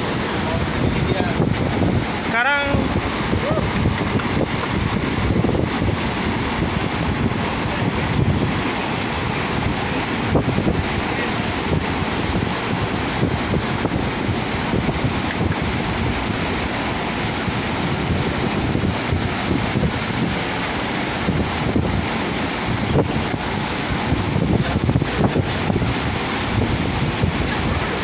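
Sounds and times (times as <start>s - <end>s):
rushing water: 0.0s - 28.0s
wind buffeting microphone: 0.0s - 28.0s.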